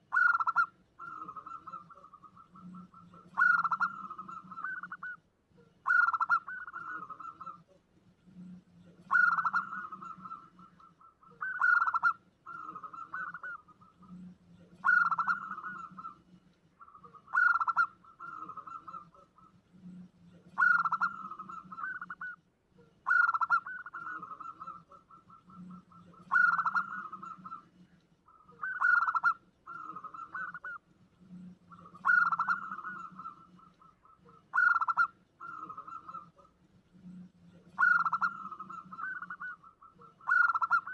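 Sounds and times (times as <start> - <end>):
dove cooing with trill: 0.0 - 40.9.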